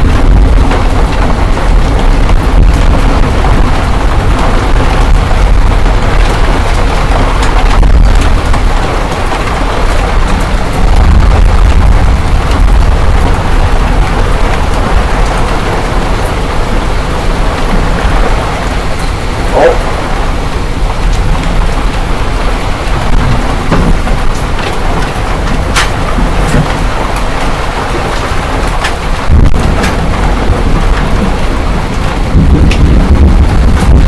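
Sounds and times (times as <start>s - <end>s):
deep rumble: 0.0s - 34.0s
hail and heavy rain pelting: 0.0s - 34.0s.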